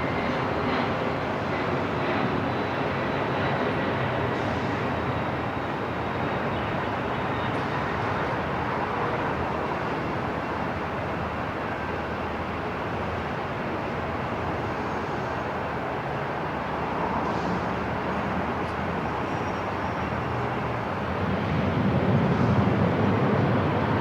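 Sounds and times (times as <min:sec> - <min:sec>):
airport rumble and hiss: 0:00.0 - 0:24.0.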